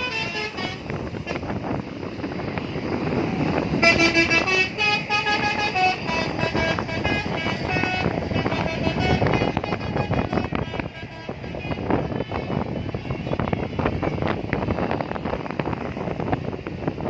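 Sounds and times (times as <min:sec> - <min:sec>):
multi-tone musical bus horn: 0:00.0 - 0:02.4, 0:03.0 - 0:16.4
steady rumble: 0:00.0 - 0:17.0.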